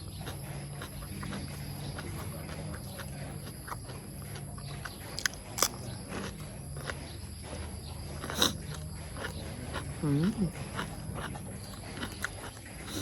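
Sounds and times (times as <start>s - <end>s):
person chewing: 0.0s - 13.0s
steady low hum: 0.0s - 13.0s.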